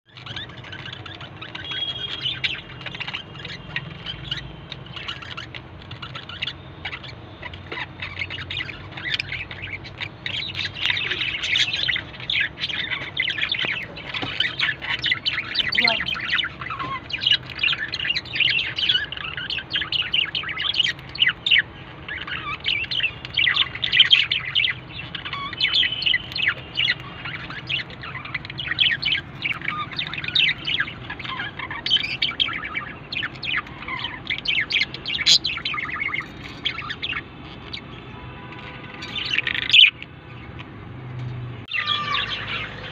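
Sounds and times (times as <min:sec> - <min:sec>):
budgerigars chirping: 0:00.1 - 0:40.6, 0:41.7 - 0:42.9.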